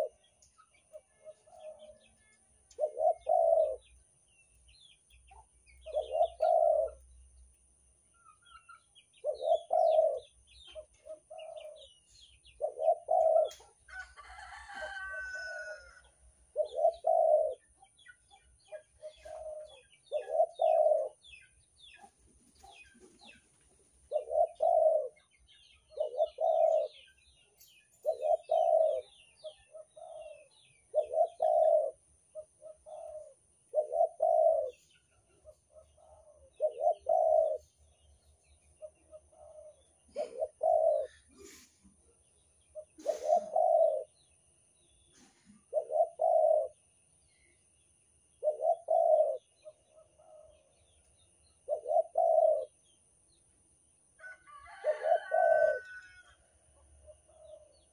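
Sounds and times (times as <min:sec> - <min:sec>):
dove cooing: 0:00.0 - 0:04.0, 0:05.8 - 0:07.1, 0:09.2 - 0:21.4, 0:22.0 - 0:37.9, 0:38.8 - 0:44.3, 0:45.1 - 0:46.8, 0:48.4 - 0:51.0, 0:51.6 - 0:52.9, 0:54.4 - 0:57.9
small birds chirping: 0:00.0 - 0:57.9.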